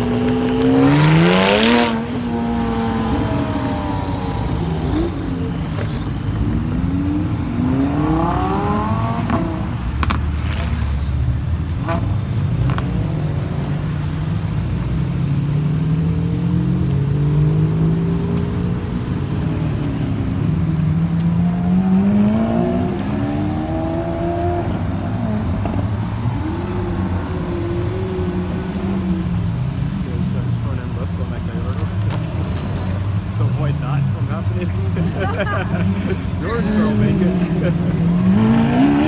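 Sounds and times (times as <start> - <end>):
car engines revving and accelerating: 0.0 - 39.0.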